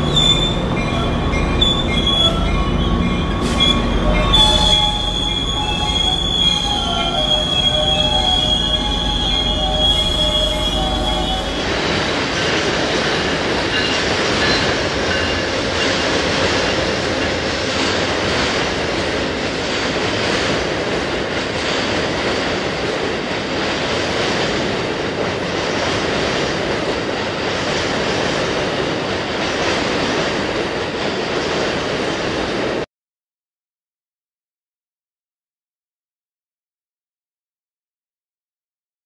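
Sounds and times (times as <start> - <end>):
train wheels on rails: 0.0 - 32.9.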